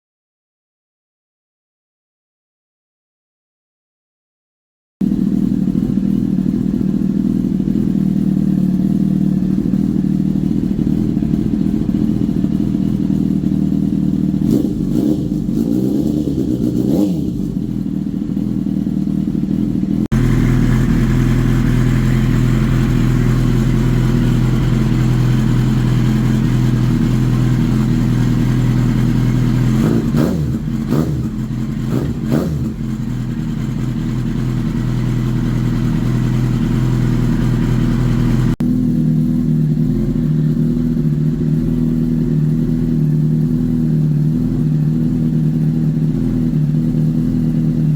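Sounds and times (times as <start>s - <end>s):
motorcycle engine idling: 5.0s - 47.9s
motorcycle throttle blips: 5.0s - 47.9s.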